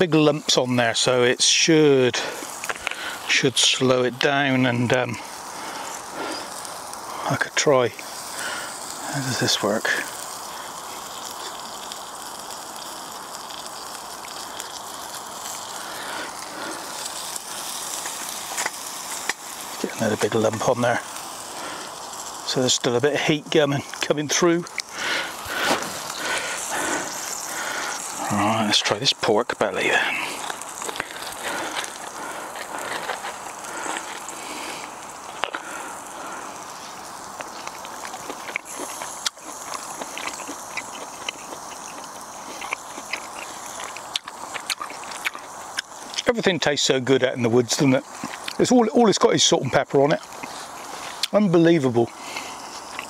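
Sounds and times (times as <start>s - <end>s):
meat sizzling on a grill: 0.0s - 53.0s
steady hiss: 0.0s - 53.0s.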